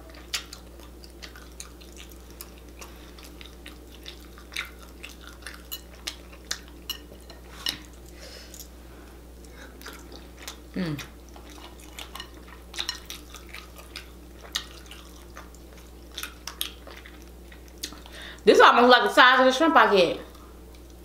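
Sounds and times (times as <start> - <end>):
wet clicks and smacks of eating: 0.1 - 8.0, 9.4 - 18.1, 20.3 - 21.0.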